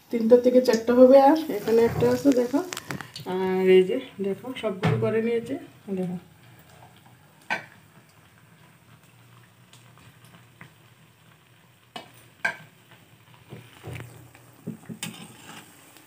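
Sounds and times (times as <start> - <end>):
batter frying in hot oil: 0.0 - 16.0.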